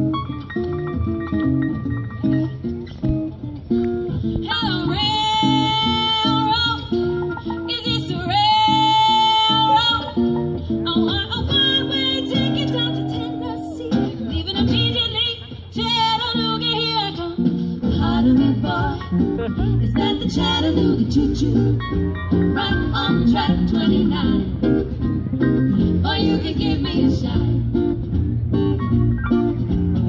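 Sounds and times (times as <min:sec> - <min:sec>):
bass plucking: 0:00.0 - 0:30.0
guitar plucking: 0:00.0 - 0:30.0
live swing music: 0:00.0 - 0:30.0.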